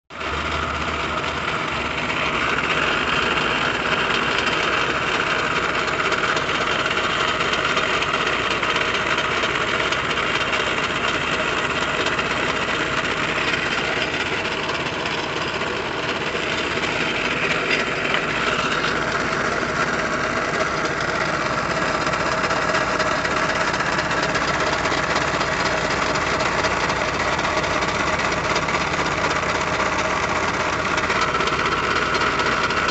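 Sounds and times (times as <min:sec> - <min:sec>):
drill press motor running: 0:00.2 - 0:32.9.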